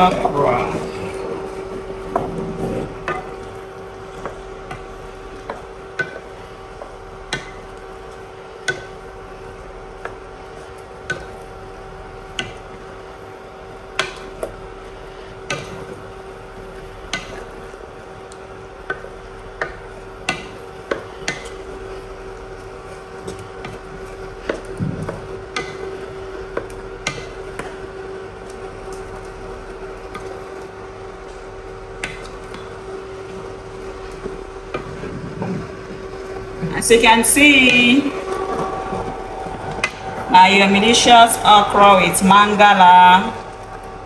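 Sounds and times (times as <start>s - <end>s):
steady low hum: 0.0s - 44.0s
wooden spatula stirring in pot: 0.0s - 44.0s.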